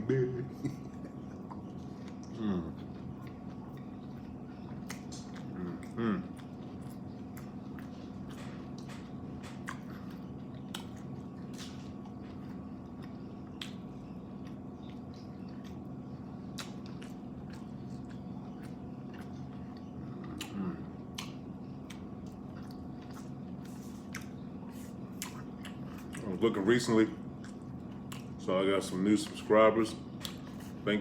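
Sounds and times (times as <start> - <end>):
steady background hum: 0.0 - 31.0
wet chewing and biting: 1.4 - 26.4, 27.3 - 28.4, 30.1 - 30.8.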